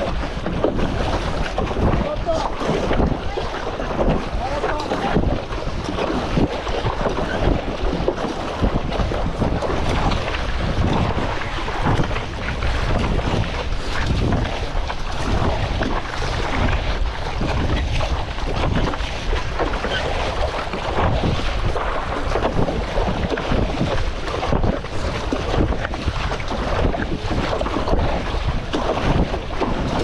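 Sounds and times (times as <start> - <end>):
choppy water splashing: 0.0 - 30.0
paddle strokes in water: 0.0 - 30.0
wind buffeting microphone: 0.0 - 30.0.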